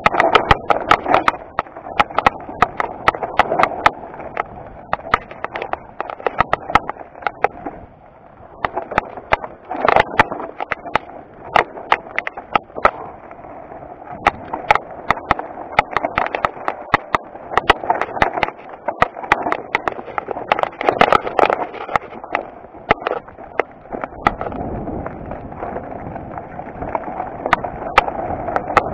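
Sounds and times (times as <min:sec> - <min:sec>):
bike knocking and rattling: 0:00.0 - 0:28.9
bike tyres crunching over stones: 0:00.0 - 0:28.9
steady rushing noise: 0:00.0 - 0:28.9.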